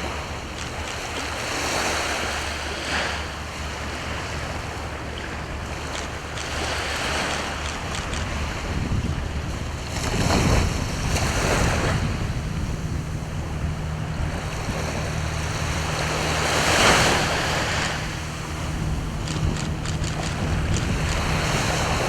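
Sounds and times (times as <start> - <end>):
low hum: 0.0 - 22.0
waves washing onto shore: 0.0 - 22.0.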